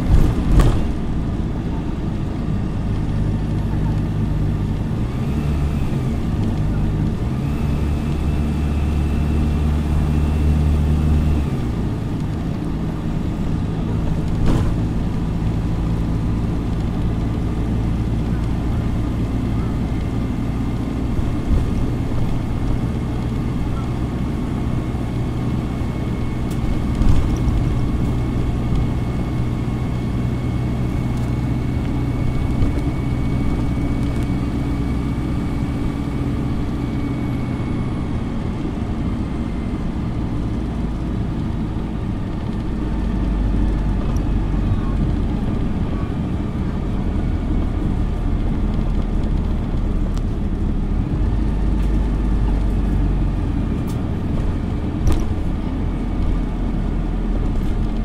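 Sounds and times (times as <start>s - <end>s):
bus engine running: 0.0s - 58.0s
road noise: 0.0s - 58.0s.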